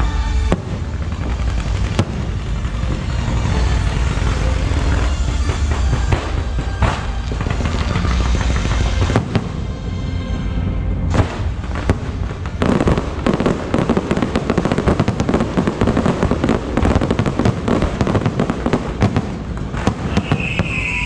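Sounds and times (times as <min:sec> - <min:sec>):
fireworks bursting and crackling: 0:00.0 - 0:09.7, 0:11.1 - 0:21.0.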